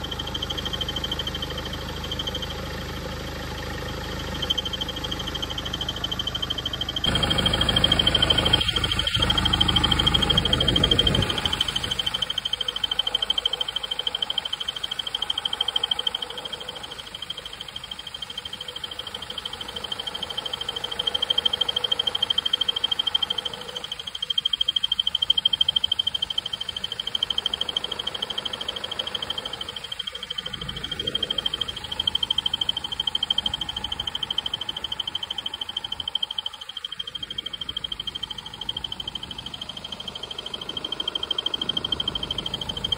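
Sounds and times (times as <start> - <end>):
car engine running: 0.0 - 42.9
engine belt squealing: 0.0 - 42.9.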